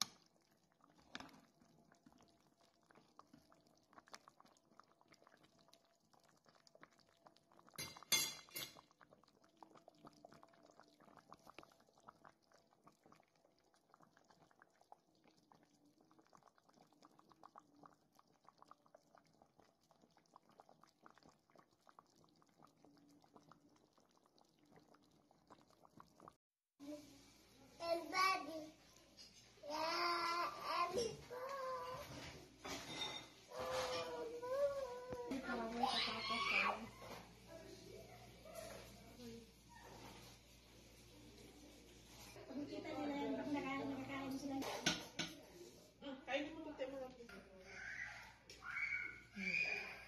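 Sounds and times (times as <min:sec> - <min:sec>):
simmering stew crackling: 0:00.0 - 0:50.0.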